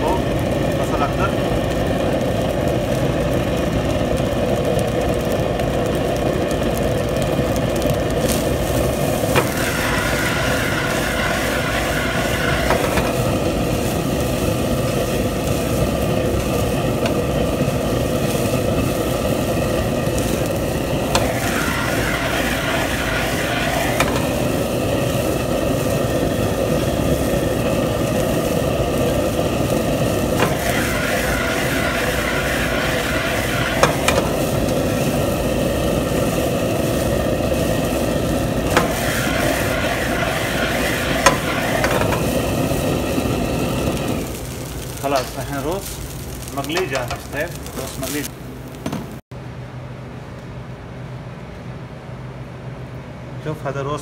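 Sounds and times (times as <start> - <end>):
gas stove and ventilation rushing: 0.0 - 54.0.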